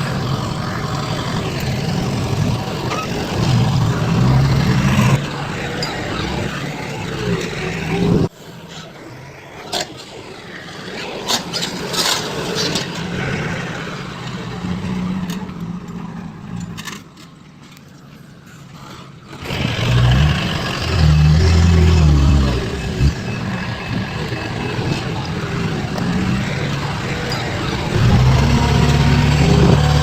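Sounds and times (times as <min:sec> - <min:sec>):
heavy machinery engines running: 0:00.0 - 0:30.0.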